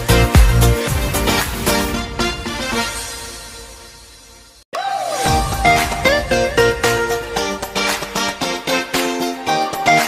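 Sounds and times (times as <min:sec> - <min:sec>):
lively background tune: 0:00.0 - 0:03.8, 0:05.2 - 0:10.0.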